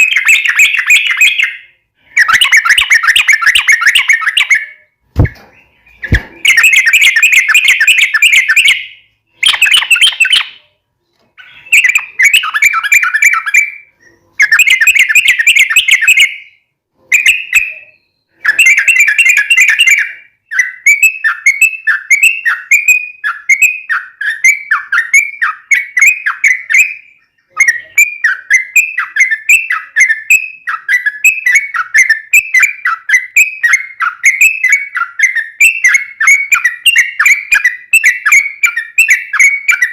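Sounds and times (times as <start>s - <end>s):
bird singing bubbly chatter: 0.0s - 10.6s, 11.4s - 39.9s
bird whistling slurred notes: 0.0s - 10.6s, 11.4s - 39.9s.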